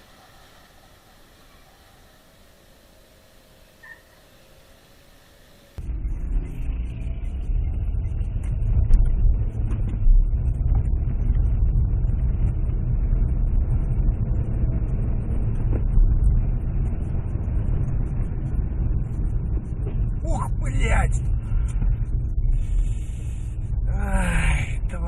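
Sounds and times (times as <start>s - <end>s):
vehicle driving rumble: 0.0s - 25.0s.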